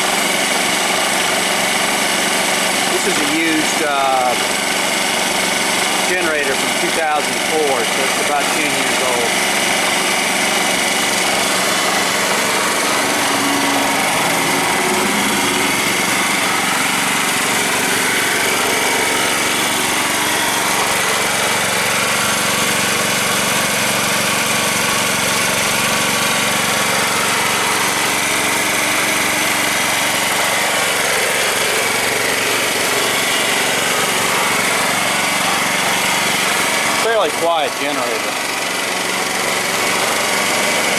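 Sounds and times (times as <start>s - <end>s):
generator engine humming: 0.0s - 40.9s.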